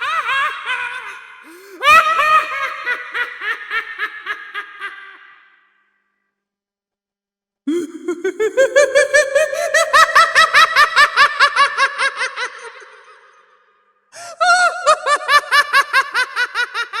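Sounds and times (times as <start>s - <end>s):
creepy clown cackling laugh: 0.0s - 5.9s, 7.7s - 17.0s.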